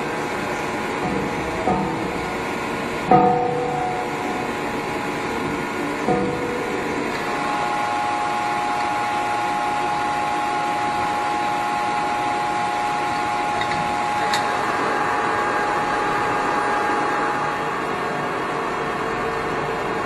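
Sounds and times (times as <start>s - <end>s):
lathe running with whine: 0.0s - 20.0s.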